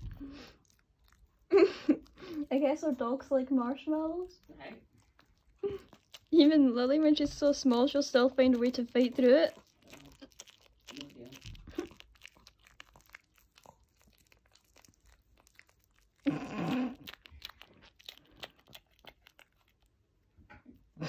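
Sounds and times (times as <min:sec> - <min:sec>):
dog chewing with wet smacking: 0:00.0 - 0:21.0.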